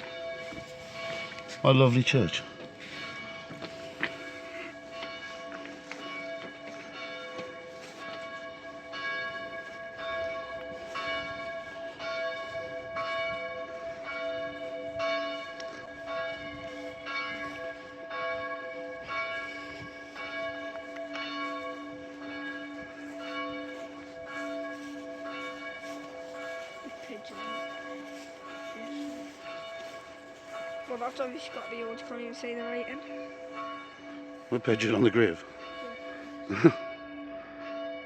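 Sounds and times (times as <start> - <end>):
church bells ringing: 0.0 - 38.0.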